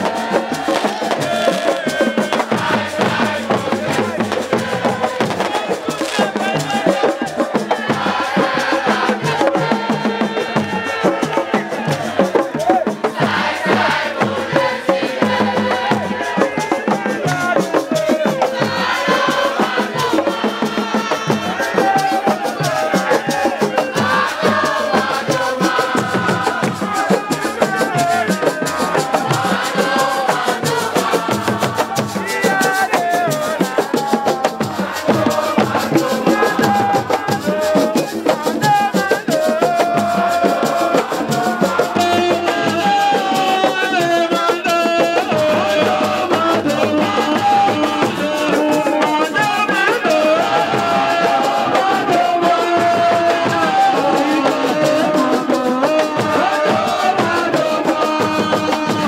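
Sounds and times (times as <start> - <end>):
fast dense percussion and rattles: 0.0 - 59.0
person singing: 0.0 - 59.0.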